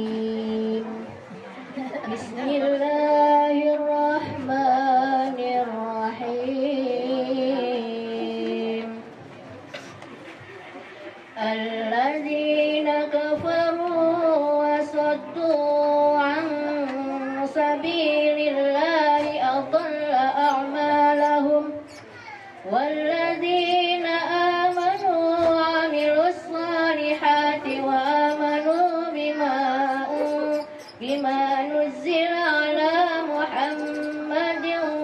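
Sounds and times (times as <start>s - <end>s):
woman chanting recitation: 0.0s - 9.2s, 11.4s - 35.0s.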